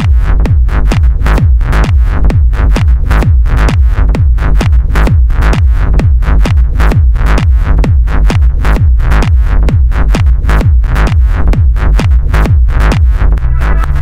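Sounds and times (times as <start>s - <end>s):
kick drum: 0.0s - 14.0s.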